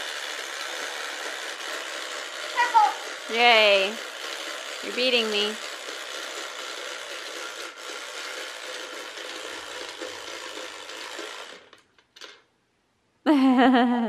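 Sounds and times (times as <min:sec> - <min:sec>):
toy mechanism whirring: 0:00.0 - 0:12.5.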